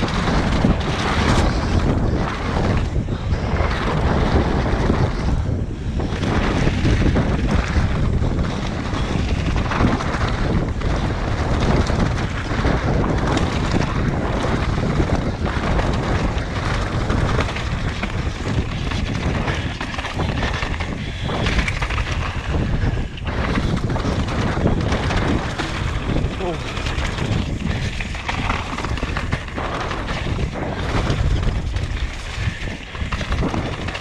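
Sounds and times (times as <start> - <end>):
bike rumbling over rough ground: 0.0 - 34.0
wind buffeting microphone: 0.0 - 34.0.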